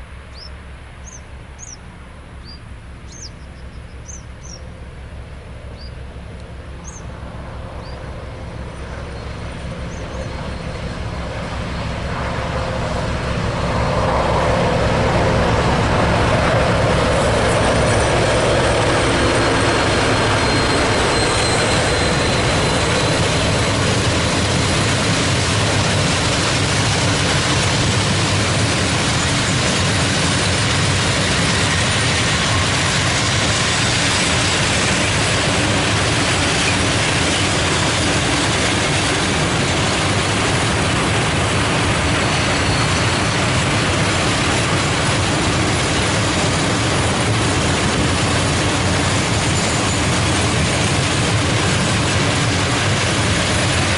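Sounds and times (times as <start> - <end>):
freight train wheels rolling: 5.6 - 53.9.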